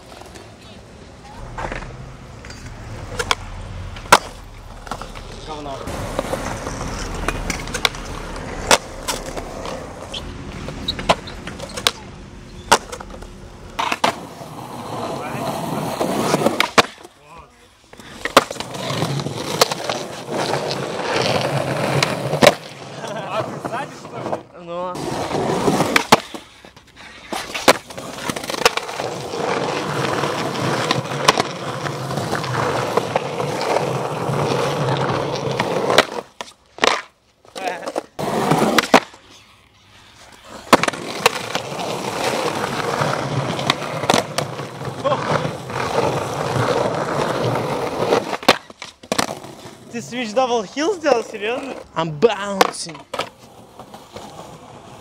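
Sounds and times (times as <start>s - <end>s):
skateboard wheels rolling on pavement: 0.0s - 55.0s
skateboard clacks: 1.5s - 17.1s, 17.9s - 24.4s, 25.0s - 39.2s, 40.2s - 49.8s, 52.5s - 55.0s.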